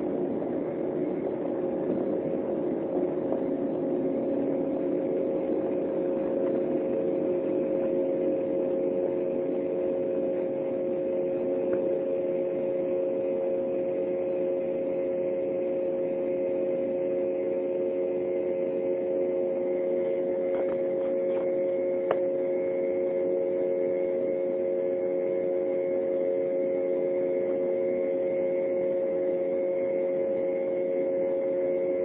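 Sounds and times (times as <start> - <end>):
jet engines roaring in cabin: 0.0 - 32.0.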